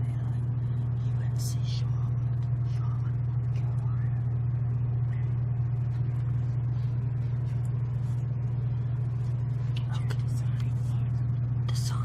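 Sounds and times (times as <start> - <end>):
vending machine humming: 0.0 - 12.0.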